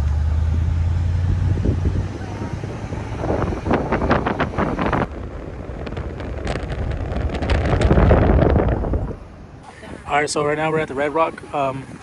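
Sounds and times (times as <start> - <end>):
low road rumble: 0.0 - 12.0
wind buffeting microphone: 0.5 - 12.0.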